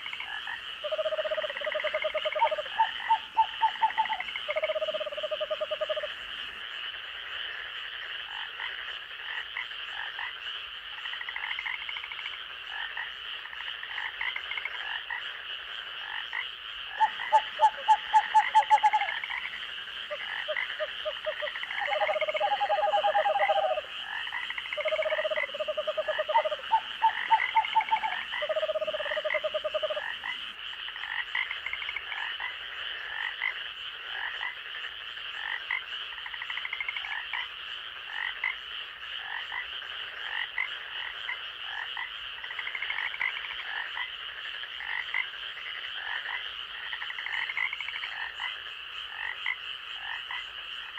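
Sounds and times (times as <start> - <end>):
frogs calling in pulse trains: 0.0 - 50.9.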